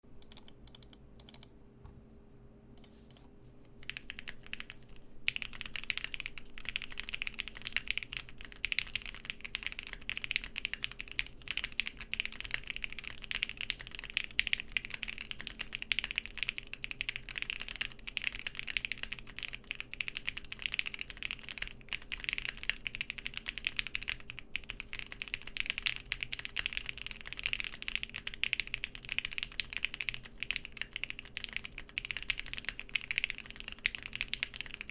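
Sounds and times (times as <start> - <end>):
faint fan hum: 0.0 - 34.9
mechanical keyboard typing: 0.2 - 1.5, 2.8 - 34.9.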